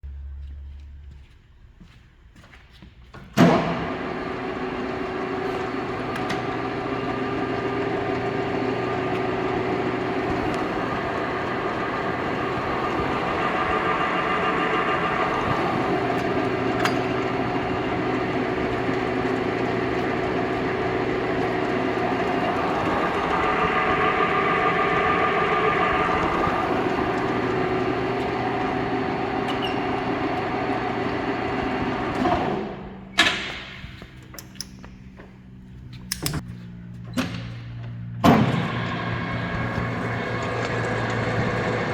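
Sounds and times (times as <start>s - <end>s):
low machine hum: 0.0s - 2.4s, 3.4s - 41.9s
lathe running: 3.4s - 33.5s, 38.3s - 41.9s.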